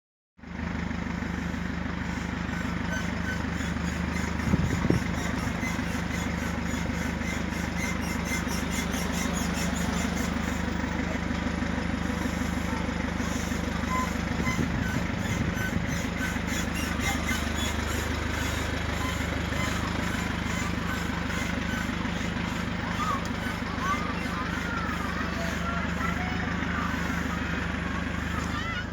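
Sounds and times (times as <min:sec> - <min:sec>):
vehicle engine running: 0:00.4 - 0:28.9
rhythmic bearing squeaking: 0:01.3 - 0:28.9.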